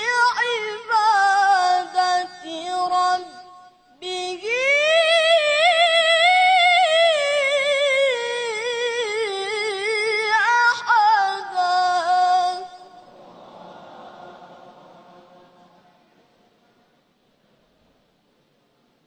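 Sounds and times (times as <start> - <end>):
boy reciting melodically: 0.0 - 16.0.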